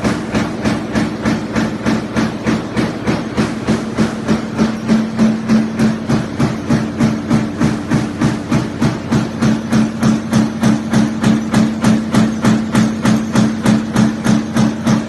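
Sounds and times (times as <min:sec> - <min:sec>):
machine hum: 0:00.0 - 0:15.0
stamping press hits: 0:00.0 - 0:15.0.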